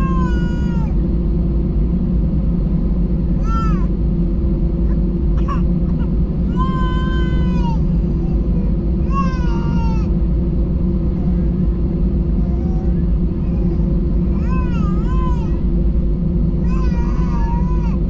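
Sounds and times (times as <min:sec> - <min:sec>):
airplane cabin rumble and hum: 0:00.0 - 0:18.0.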